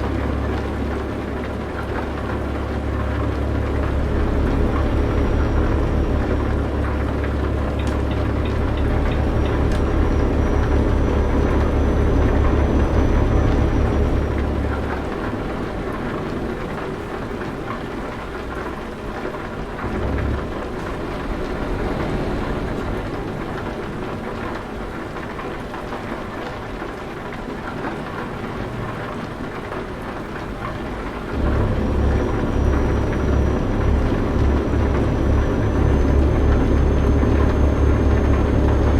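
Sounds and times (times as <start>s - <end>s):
truck engine drone: 0.0s - 25.9s, 31.0s - 38.9s.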